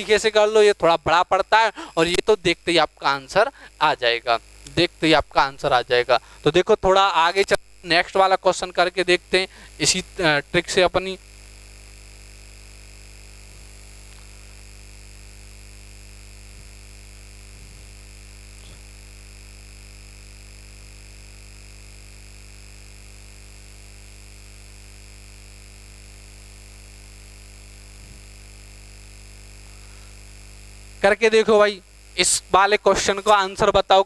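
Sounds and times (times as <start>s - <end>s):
electrical hum and hiss: 0.0s - 34.0s.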